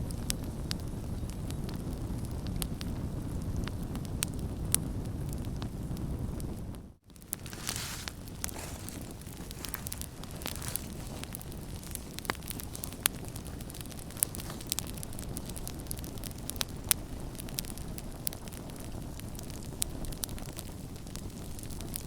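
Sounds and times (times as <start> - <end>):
campfire burning: 0.0 - 22.0
wood crackling and popping: 0.0 - 22.0.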